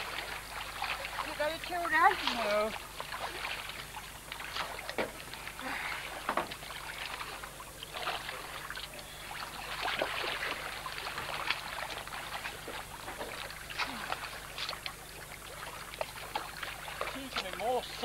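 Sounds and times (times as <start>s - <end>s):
water splashing: 0.0s - 18.0s.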